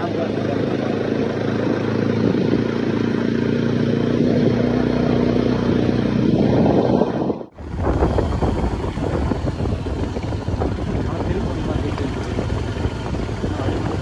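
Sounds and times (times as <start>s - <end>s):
motorcycle engine drone: 0.0s - 14.0s
road and wind noise: 0.0s - 14.0s.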